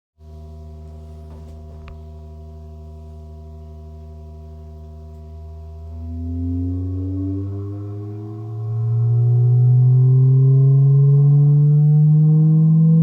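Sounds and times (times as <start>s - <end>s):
low test tone rising in pitch: 0.5s - 13.0s.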